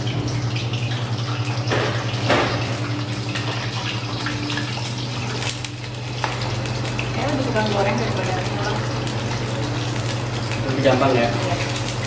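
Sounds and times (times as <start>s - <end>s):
patty sizzling in frying pan: 0.0s - 12.0s.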